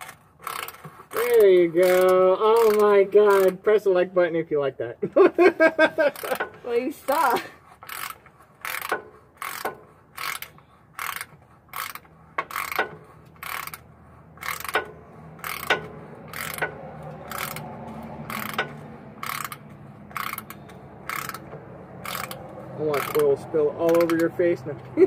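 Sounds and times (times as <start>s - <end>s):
ratchet wrench clicking: 0.0s - 3.6s, 6.1s - 24.6s.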